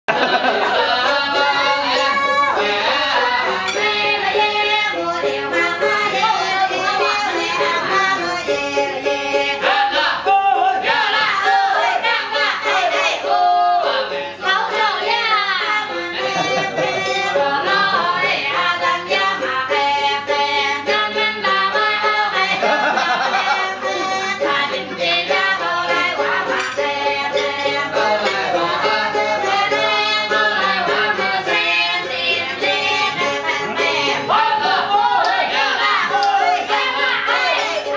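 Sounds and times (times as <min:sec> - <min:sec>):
woman singing with music: 0:00.1 - 0:37.9.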